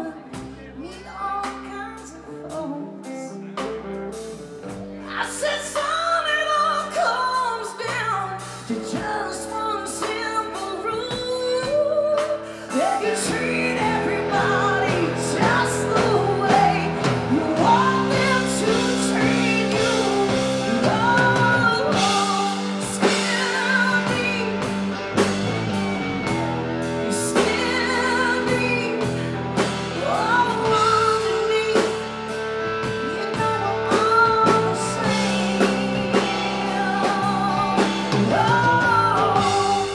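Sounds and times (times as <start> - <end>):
woman singing: 0.0 - 3.4, 5.0 - 25.2, 26.9 - 39.9
live blues band playing: 0.0 - 39.9.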